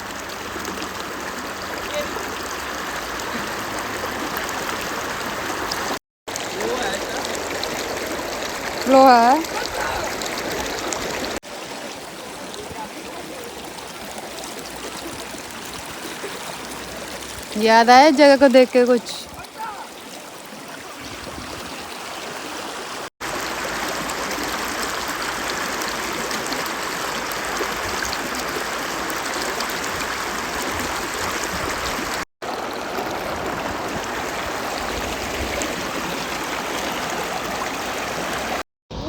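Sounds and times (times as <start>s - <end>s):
mountain stream flowing: 0.0s - 38.6s.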